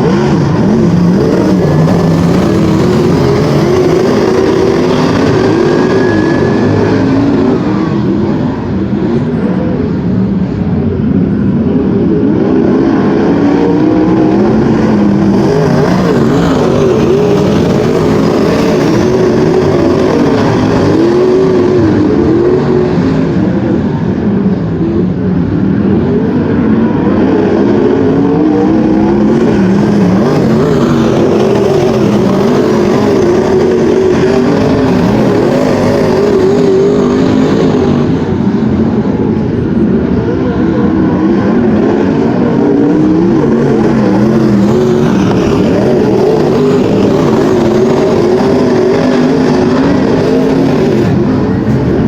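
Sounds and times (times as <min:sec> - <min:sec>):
race car engines running hard: 0:00.0 - 0:52.0.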